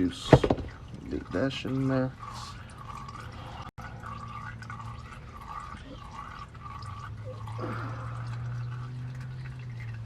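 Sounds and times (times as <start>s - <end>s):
low steady hum: 0.0s - 10.0s
oil dripping into pan: 0.0s - 10.0s.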